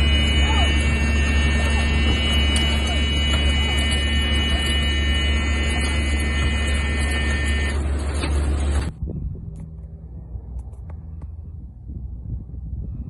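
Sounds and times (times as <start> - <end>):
aircraft engine and wind noise: 0.0 - 13.0.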